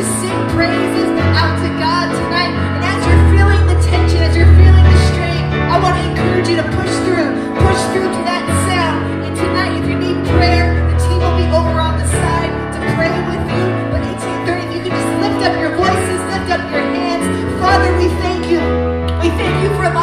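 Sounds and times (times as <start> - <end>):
worship band music: 0.0 - 20.0.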